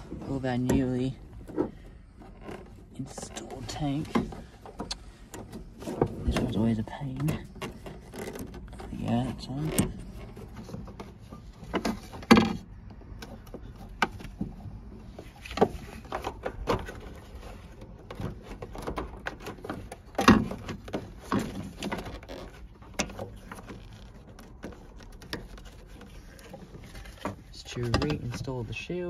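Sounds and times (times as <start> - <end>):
plastic and metal parts clattering: 0.0 - 29.0.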